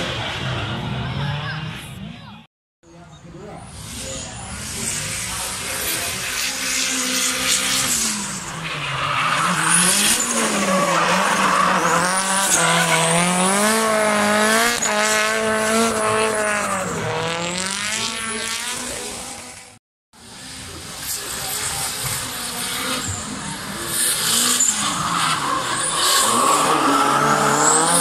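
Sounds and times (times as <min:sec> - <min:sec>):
car engine revving hard: 0:04.4 - 0:19.8, 0:20.4 - 0:28.0.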